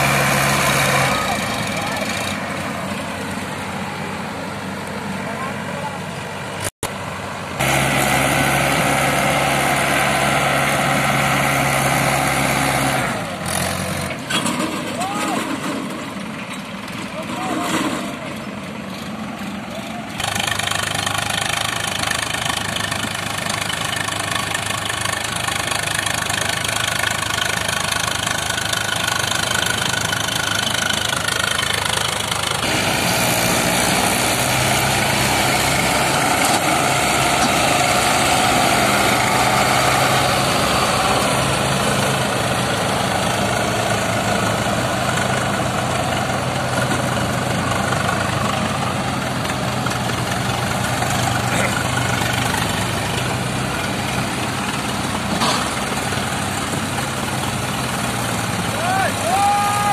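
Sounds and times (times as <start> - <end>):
tractor diesel engines running: 0.0 - 59.9.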